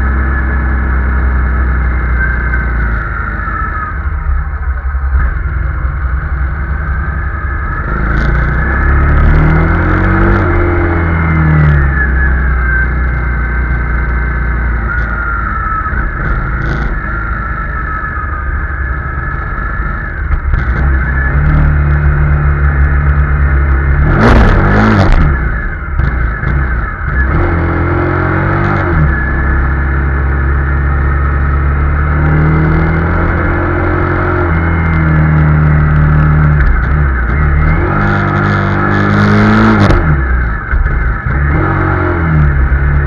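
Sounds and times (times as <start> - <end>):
motorcycle engine revving and shifting: 0.0 - 43.0.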